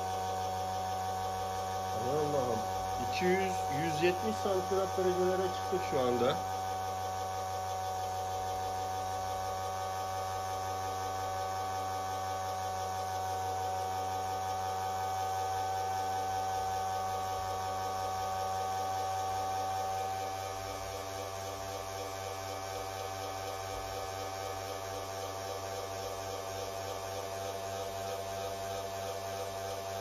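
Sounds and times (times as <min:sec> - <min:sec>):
electric motor humming with whine: 0:00.0 - 0:30.0.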